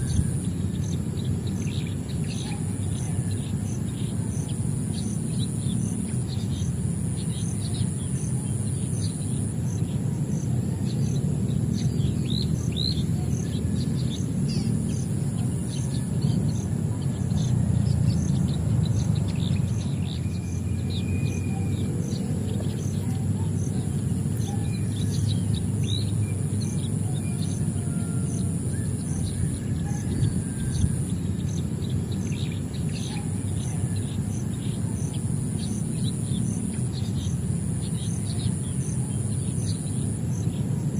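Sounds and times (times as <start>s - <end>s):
low background rumble: 0.0s - 40.9s
pulsing insect-like trill: 0.0s - 40.9s
small birds chirping: 0.0s - 40.9s.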